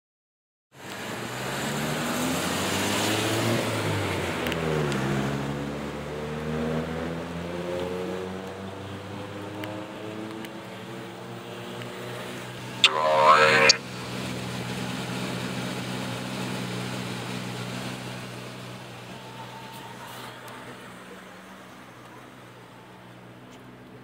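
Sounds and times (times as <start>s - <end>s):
road noise: 0.8s - 24.0s.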